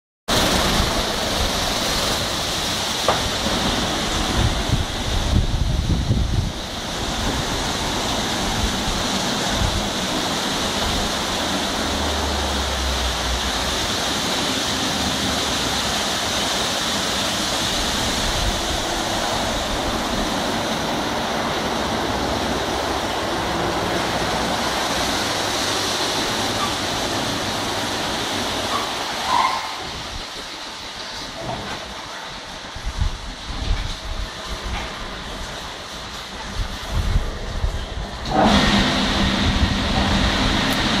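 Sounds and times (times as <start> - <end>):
car wash water spray: 0.3 - 41.0.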